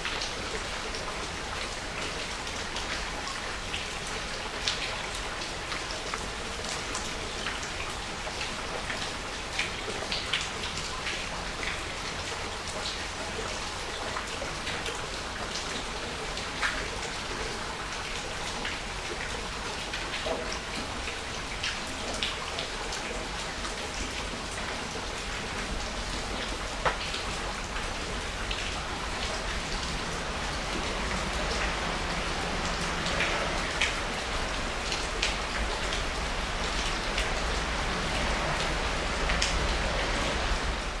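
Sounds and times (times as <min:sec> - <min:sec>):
rain pattering on water and plants: 0:00.0 - 0:41.0.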